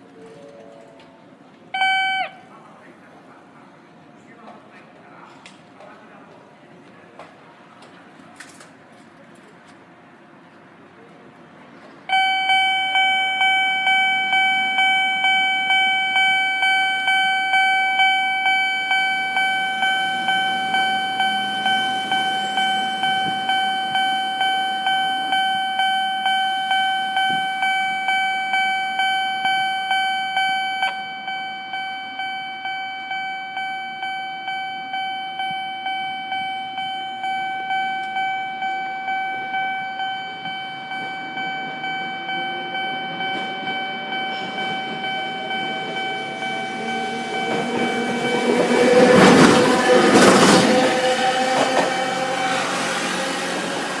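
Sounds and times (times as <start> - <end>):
level-crossing alarm dinging: 0.0 - 2.6, 12.1 - 54.0.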